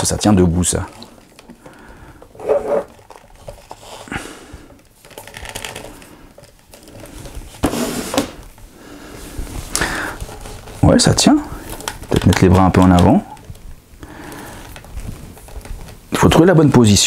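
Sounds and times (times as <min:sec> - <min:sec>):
plastic figure rustling and knocking: 0:00.0 - 0:04.0, 0:04.7 - 0:08.7, 0:09.3 - 0:13.8, 0:14.6 - 0:16.4.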